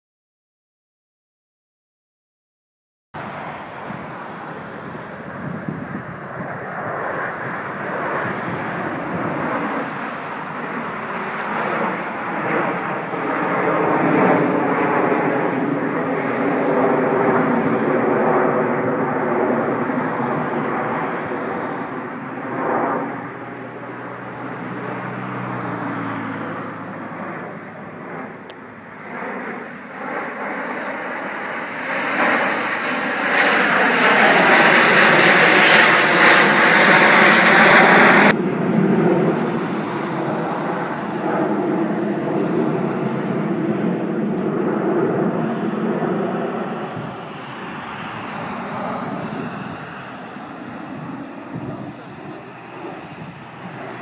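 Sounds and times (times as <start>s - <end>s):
jets flying over: 3.2s - 54.0s.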